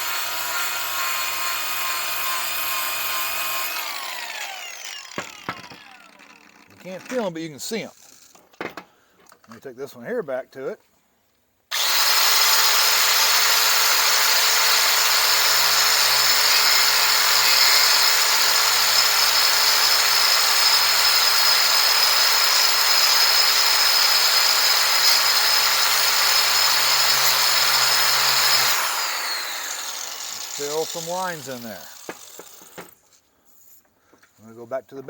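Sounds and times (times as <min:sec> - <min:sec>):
angle grinder grinding steel: 0:00.0 - 0:07.5, 0:11.7 - 0:32.9.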